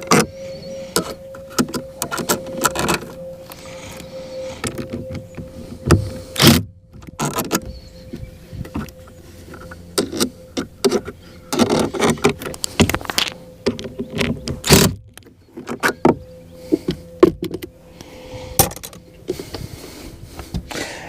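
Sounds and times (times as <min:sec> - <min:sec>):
hard parts clicking and rattling: 0:00.0 - 0:17.8, 0:18.6 - 0:19.7
faint steady hum: 0:00.0 - 0:21.0.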